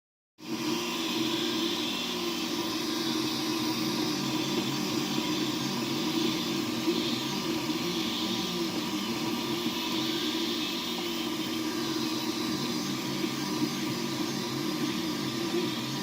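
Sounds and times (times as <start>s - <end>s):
fan hiss: 0.4s - 16.0s
stepper motors whining: 0.4s - 16.0s.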